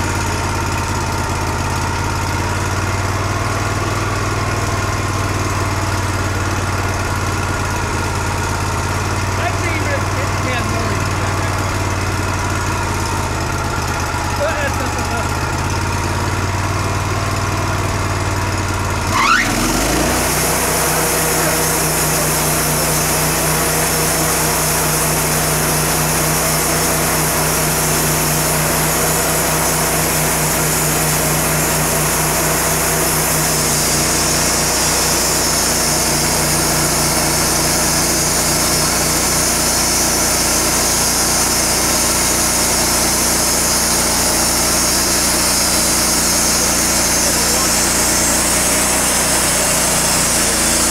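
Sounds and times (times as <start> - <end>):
band saw cutting log: 0.0 - 50.9
sawmill engine revving: 0.0 - 50.9.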